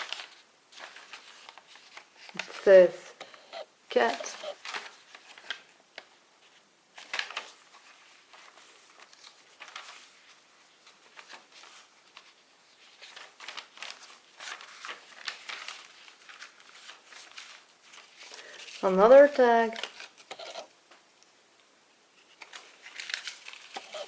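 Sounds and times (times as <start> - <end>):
paper and card rustling: 0.0 - 20.7, 22.2 - 24.0.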